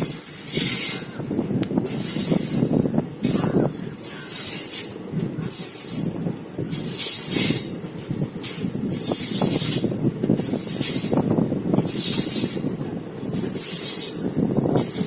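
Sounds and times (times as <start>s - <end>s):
high metallic wheel squeal: 0.0s - 1.3s, 1.9s - 7.8s, 8.4s - 12.7s, 13.3s - 15.0s
train wheels rumbling on rails: 0.0s - 15.0s.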